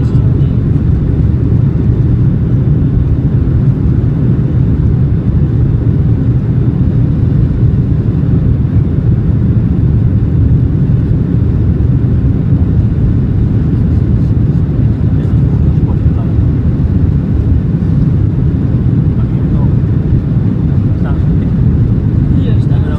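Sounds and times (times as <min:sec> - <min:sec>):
airplane cabin engine rumble: 0:00.0 - 0:22.9.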